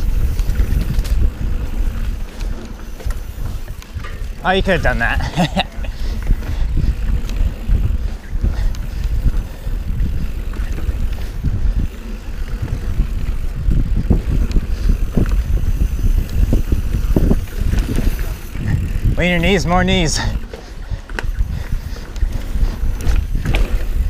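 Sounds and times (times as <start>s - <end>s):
bike knocks and rattles: 0.0s - 24.0s
bike tyre rumble: 0.0s - 24.0s
wind buffeting microphone: 0.0s - 24.0s.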